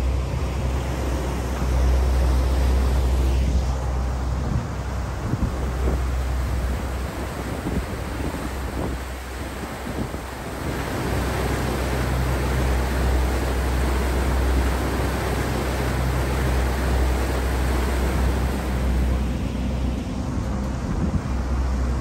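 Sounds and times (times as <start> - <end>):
ferry engine droning: 0.0 - 22.0
rushing water wash: 0.0 - 22.0
wind buffeting microphone: 0.0 - 22.0.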